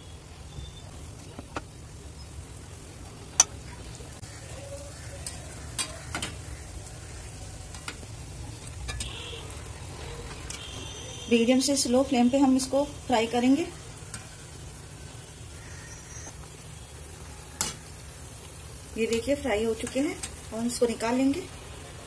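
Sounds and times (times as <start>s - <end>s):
food deep-frying in oil: 0.0s - 22.0s
sharp oil crackles: 0.2s - 22.0s.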